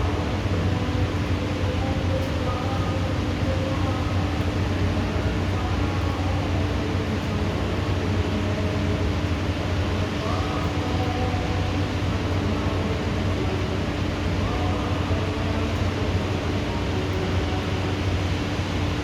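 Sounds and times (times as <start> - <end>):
heavy rain: 0.0 - 19.0
low steady hum: 0.0 - 19.0.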